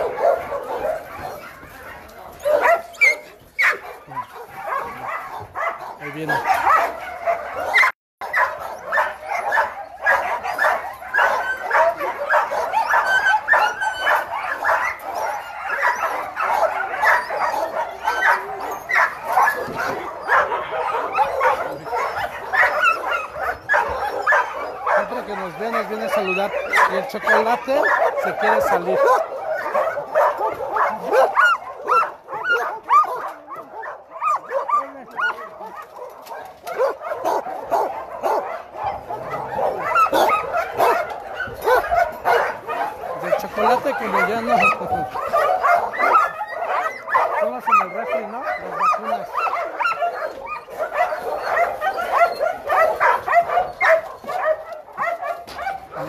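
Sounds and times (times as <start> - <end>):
dogs barking: 0.0 - 56.0.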